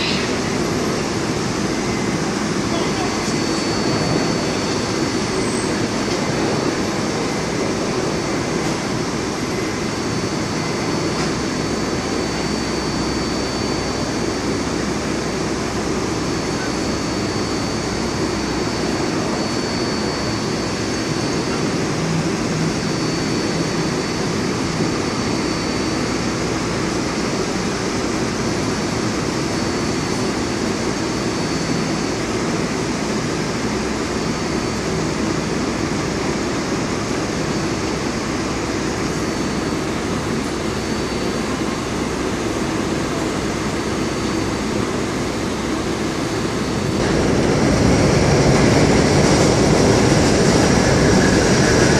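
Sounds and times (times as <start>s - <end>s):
air conditioning hum and hiss: 0.0s - 51.9s
faint high whine: 0.0s - 51.9s.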